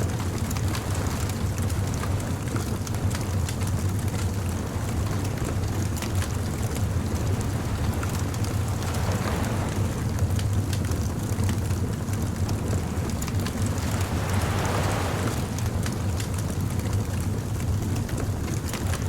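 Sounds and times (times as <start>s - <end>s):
steady low rumble: 0.0s - 19.0s
wood fire crackling: 0.3s - 18.9s.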